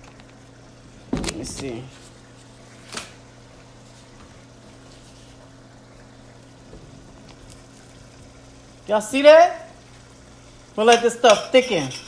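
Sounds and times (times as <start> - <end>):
low steady hum: 0.0 - 12.0
sauce bubbling in a pan: 2.0 - 11.9.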